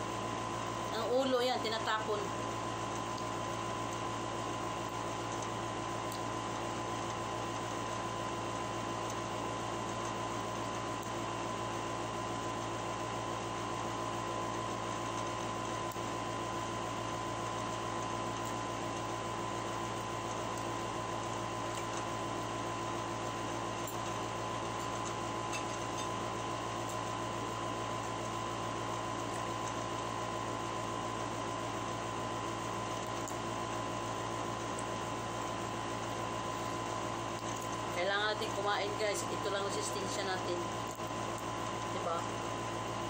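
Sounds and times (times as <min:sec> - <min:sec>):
machine hum with thin whine: 0:00.0 - 0:43.0.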